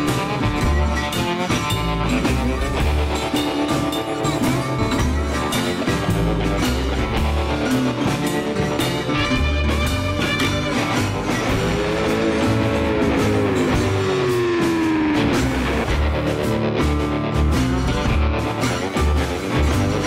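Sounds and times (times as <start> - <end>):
guitar rock music: 0.0 - 20.0
sliding guitar note: 0.0 - 20.0.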